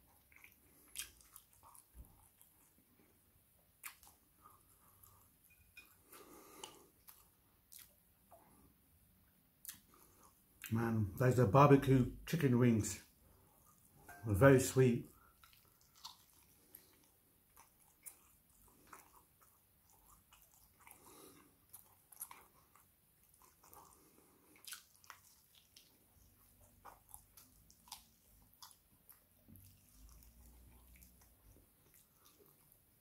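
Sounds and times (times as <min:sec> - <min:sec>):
person chewing and biting: 0:00.0 - 0:08.4, 0:09.6 - 0:10.7, 0:15.2 - 0:33.0.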